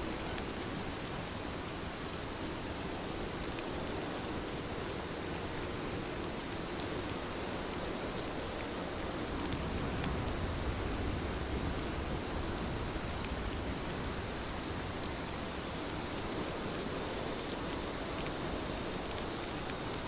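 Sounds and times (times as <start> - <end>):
heavy rain falling: 0.1 - 20.0.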